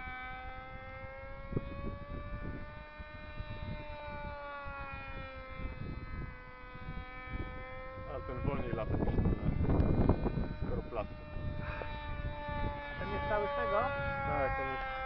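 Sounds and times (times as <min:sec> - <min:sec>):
small engine droning: 0:00.0 - 0:15.0
wind buffeting microphone: 0:00.0 - 0:15.0.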